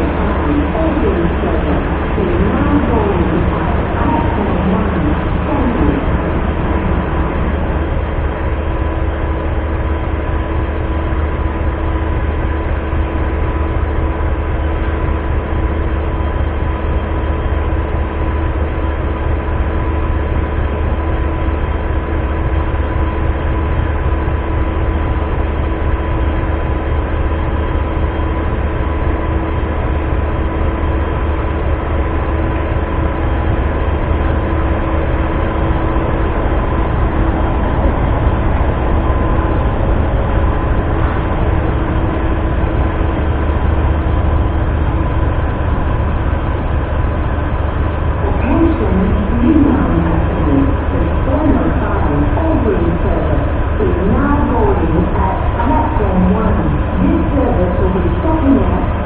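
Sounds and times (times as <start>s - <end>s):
constant hum: 0.0s - 59.0s
diesel train idling: 0.0s - 59.0s.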